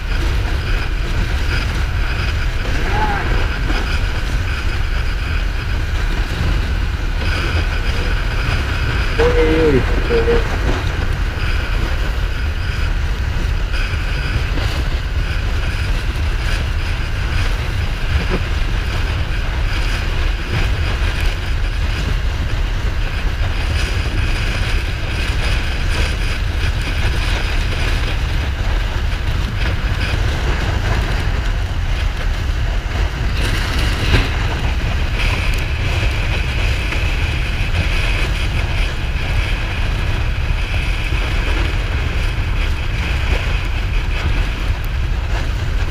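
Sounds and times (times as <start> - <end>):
road noise: 0.0 - 45.9
wind buffeting microphone: 0.0 - 45.9.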